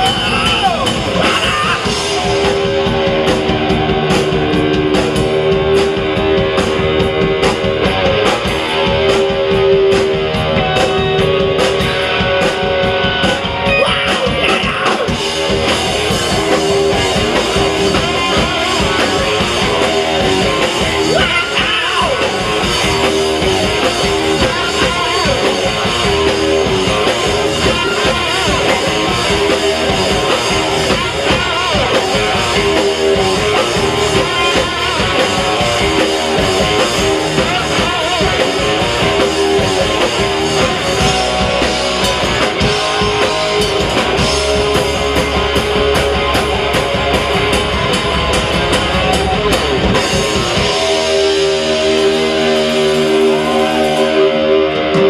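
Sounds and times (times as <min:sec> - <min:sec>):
drum kit steady beat: 0:00.0 - 0:55.0
electric guitar sustained notes: 0:00.0 - 0:55.0.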